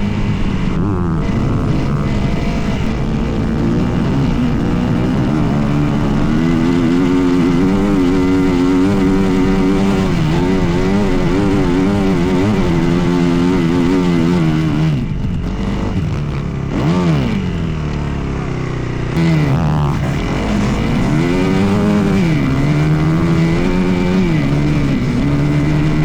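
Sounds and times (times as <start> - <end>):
dirt bike engine running hard: 0.0 - 26.0.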